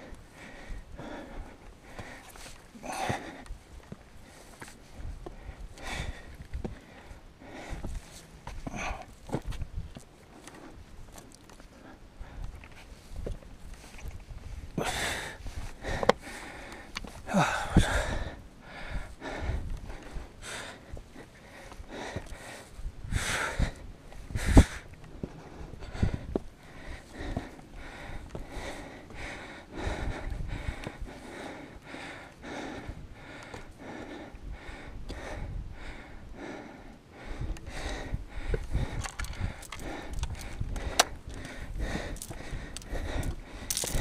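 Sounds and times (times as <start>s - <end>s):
person breathing hard: 0.0s - 3.6s, 4.2s - 9.2s, 14.7s - 44.0s
wind rumble on microphone: 4.8s - 11.1s, 12.1s - 21.2s, 21.8s - 31.4s, 32.5s - 44.0s.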